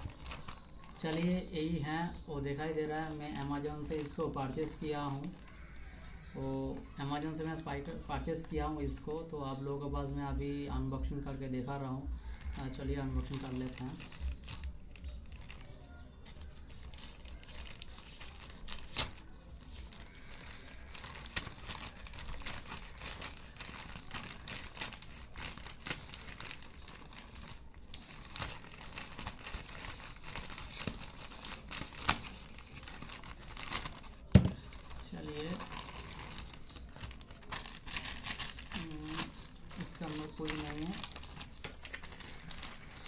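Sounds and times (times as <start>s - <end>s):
plastic bag crinkling and tearing: 0.0s - 8.6s, 12.3s - 43.0s.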